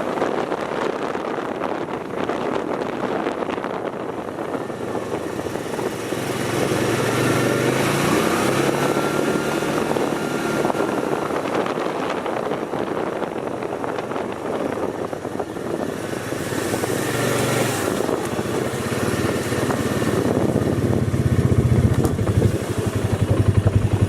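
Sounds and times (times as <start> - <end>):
vehicle engine running: 2.7 - 24.0.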